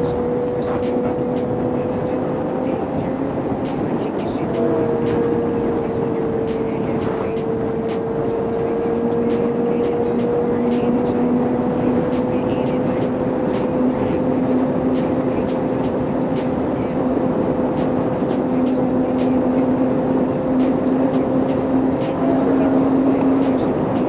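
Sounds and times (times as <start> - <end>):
motorcycle engine cruising: 0.0 - 24.0
wind rush on microphone: 0.0 - 24.0.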